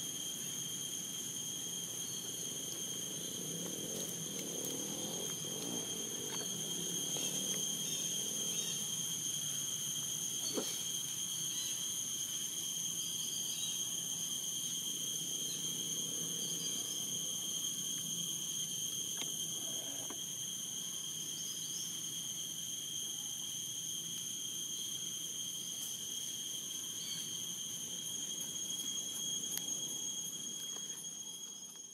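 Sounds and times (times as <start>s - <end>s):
high-pitched insect drone: 0.0s - 31.9s.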